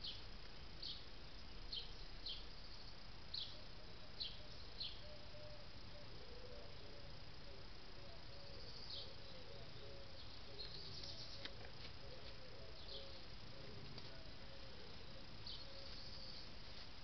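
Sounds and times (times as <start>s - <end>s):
faint birds calling: 0.0s - 16.8s
steady hiss: 0.0s - 17.0s.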